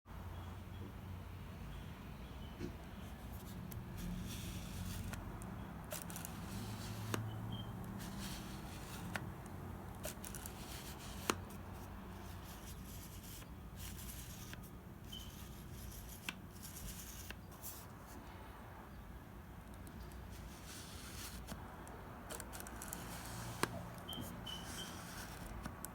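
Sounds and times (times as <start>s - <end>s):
faint scraping of lens: 3.1s - 18.2s, 19.8s - 25.9s.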